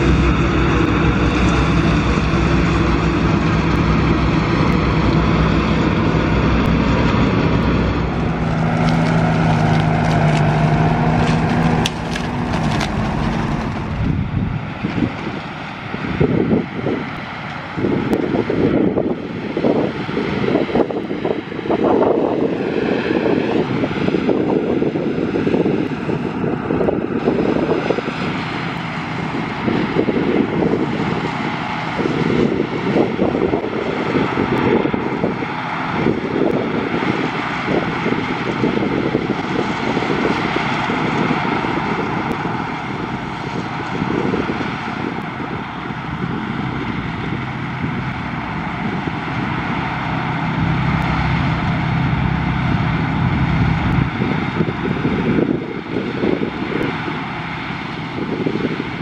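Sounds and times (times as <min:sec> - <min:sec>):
deep steady hum: 0:00.0 - 0:18.2, 0:26.4 - 0:59.0
combine harvester drone: 0:00.0 - 0:59.0.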